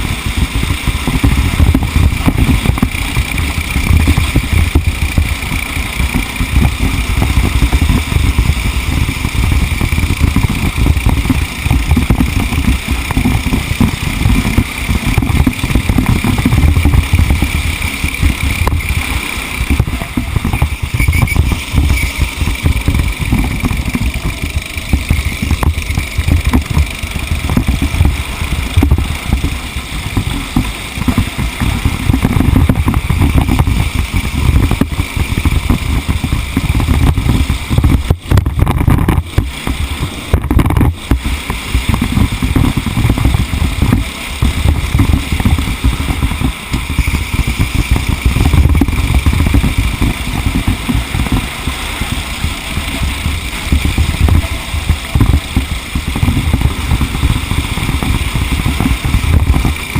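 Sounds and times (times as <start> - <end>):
racing engine running hard: 0.0 - 59.9.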